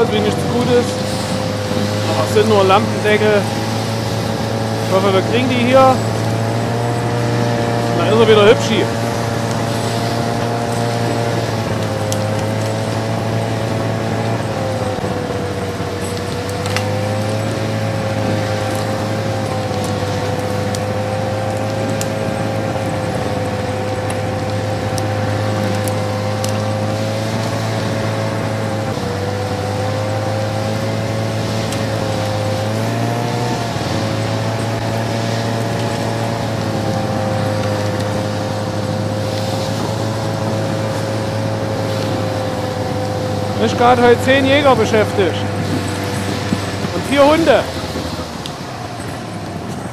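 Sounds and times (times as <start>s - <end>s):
steady whine: 0.0s - 49.9s
truck diesel engine pulling hard: 0.0s - 49.9s.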